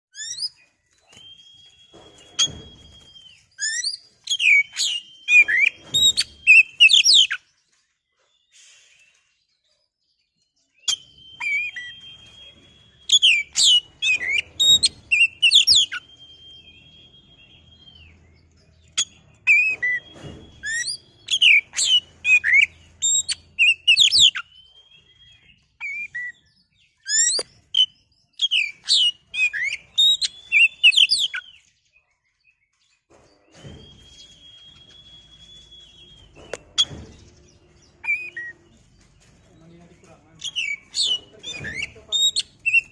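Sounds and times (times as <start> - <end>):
songbird singing: 0.1 - 42.9.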